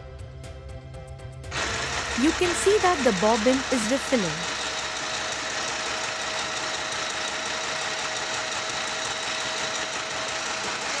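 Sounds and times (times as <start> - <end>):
sewing machine motor whirring: 1.5 - 11.0.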